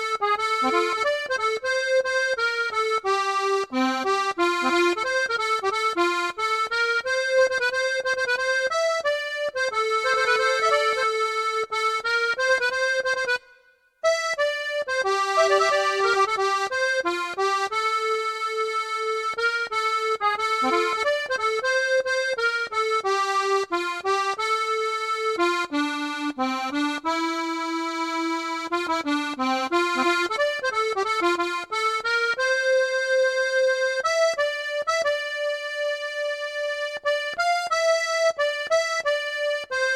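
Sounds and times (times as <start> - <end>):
accordion melody: 0.0 - 39.9
soft regular bass accompaniment: 0.0 - 39.9.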